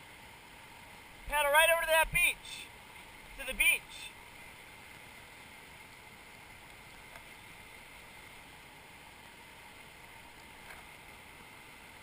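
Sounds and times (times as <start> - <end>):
faint river water rushing: 0.0 - 12.0.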